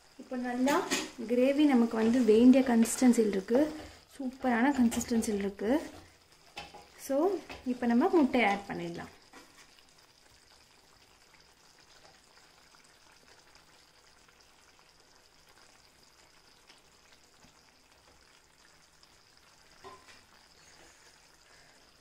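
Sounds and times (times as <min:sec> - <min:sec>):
curry simmering sizzle: 0:00.0 - 0:22.0.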